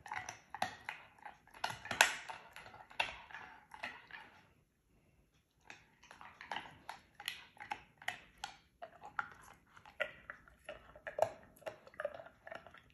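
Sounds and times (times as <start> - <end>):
dog crunching a bone: 0.0 - 4.6, 5.4 - 12.9.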